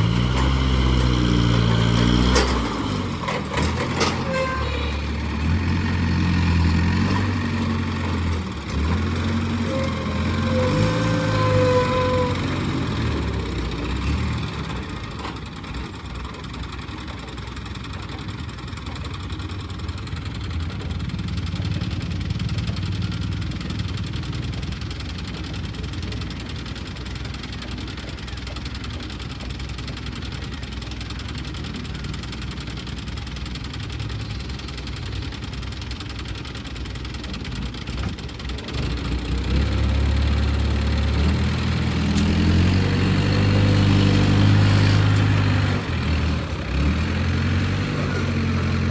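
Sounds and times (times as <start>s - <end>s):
diesel engine knocking idle and revving: 0.0s - 48.9s.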